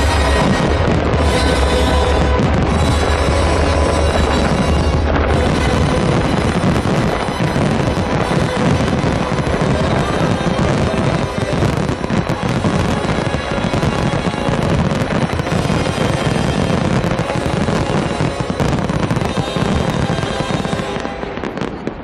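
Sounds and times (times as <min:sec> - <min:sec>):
firework shells bursting: 0:00.0 - 0:22.0
fireworks show music: 0:00.0 - 0:22.0.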